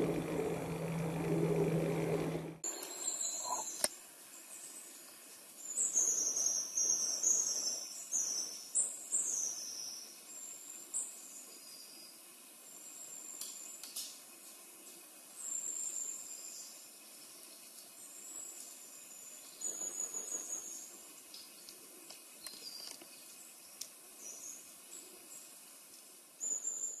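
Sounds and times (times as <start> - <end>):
steady faint hiss: 3.8 - 26.9.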